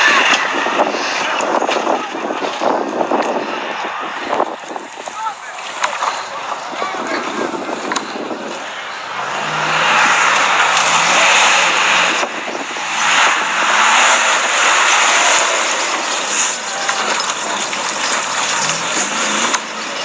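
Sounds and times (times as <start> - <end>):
off-road vehicle engine: 0.0 - 20.0
loud rushing noise: 3.3 - 20.0.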